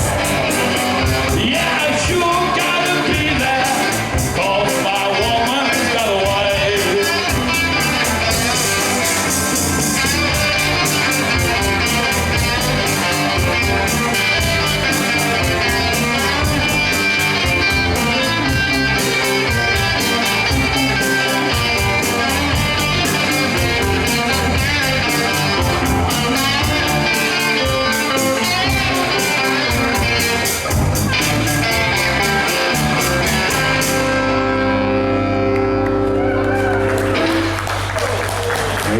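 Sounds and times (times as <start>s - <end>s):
blues band with guitar lead: 0.0s - 38.9s.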